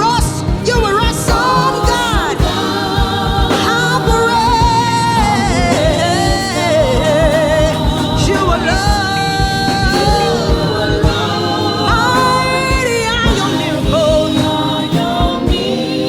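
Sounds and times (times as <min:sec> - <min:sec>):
gospel singing over a beat: 0:00.0 - 0:16.0.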